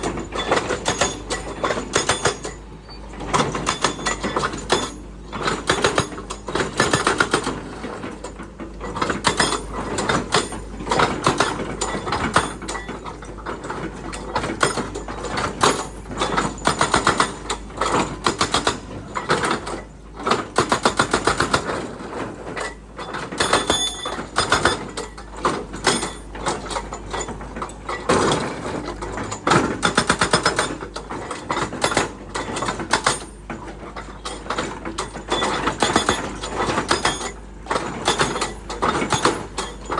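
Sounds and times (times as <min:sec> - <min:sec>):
excavator clattering: 0:00.0 - 0:39.9.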